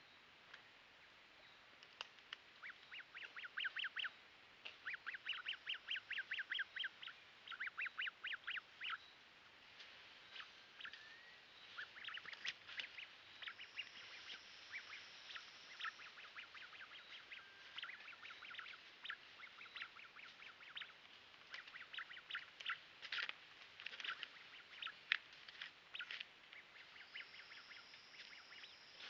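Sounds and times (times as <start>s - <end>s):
bird chirps and clicks: 1.8s - 9.1s, 10.3s - 29.0s.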